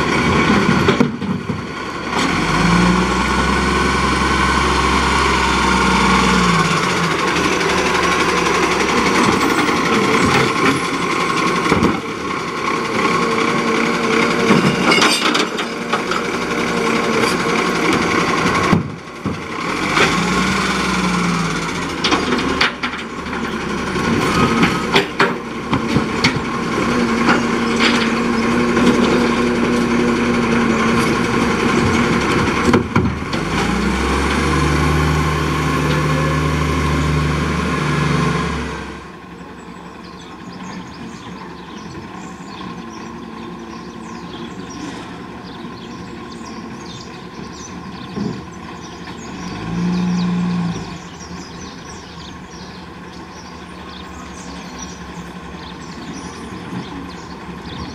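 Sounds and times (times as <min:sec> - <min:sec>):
diesel truck engine: 0:00.0 - 0:57.9.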